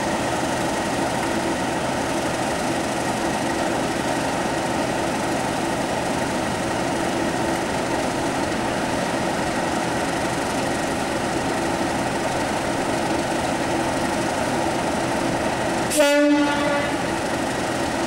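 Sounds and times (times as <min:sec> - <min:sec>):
diesel locomotive engines idling: 0:00.0 - 0:18.0.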